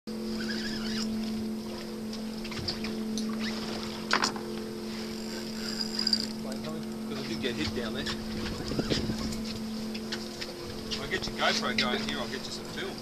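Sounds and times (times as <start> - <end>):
boat engine humming: 0.1 - 13.0.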